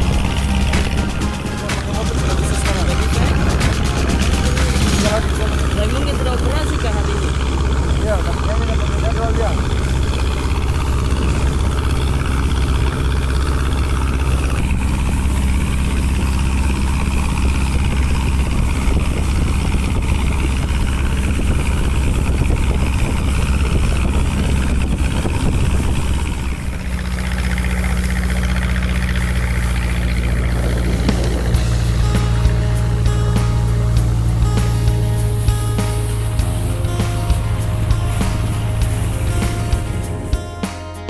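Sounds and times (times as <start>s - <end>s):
motorboat engine humming: 0.0s - 41.0s.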